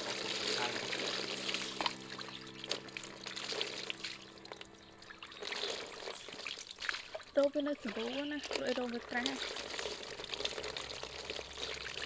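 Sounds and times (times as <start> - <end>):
water pouring and splashing: 0.0 - 12.0.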